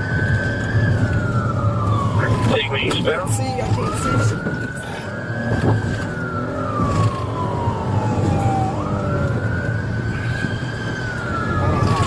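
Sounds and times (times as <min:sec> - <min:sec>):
car engine and road noise: 0:00.0 - 0:12.0
police siren wailing: 0:00.0 - 0:12.0.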